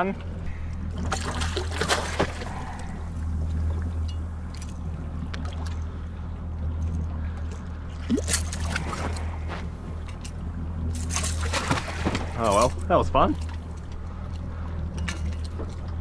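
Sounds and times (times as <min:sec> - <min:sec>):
boat engine idling: 0:00.0 - 0:16.0
water sloshing against hull: 0:00.0 - 0:16.0.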